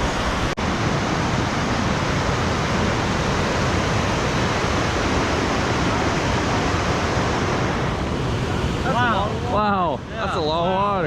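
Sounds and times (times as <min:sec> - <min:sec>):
river rapids rushing: 0:00.0 - 0:10.7.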